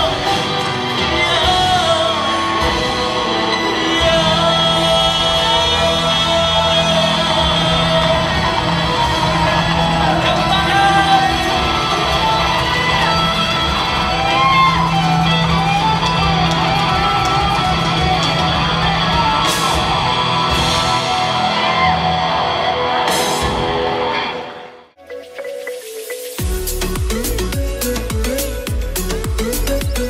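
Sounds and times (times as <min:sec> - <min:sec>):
electric guitar: 0:00.0 - 0:30.0
live rock band playing: 0:00.0 - 0:30.0.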